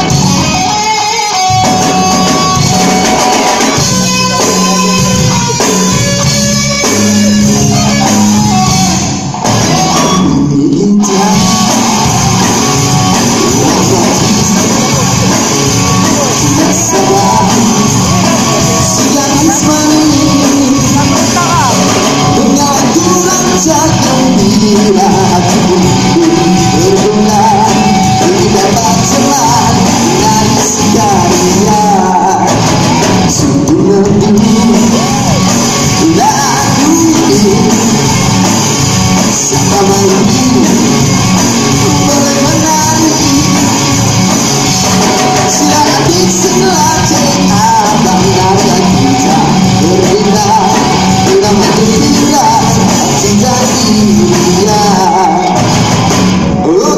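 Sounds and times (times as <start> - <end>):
live band playing: 0.0 - 56.9
person singing: 0.0 - 56.9.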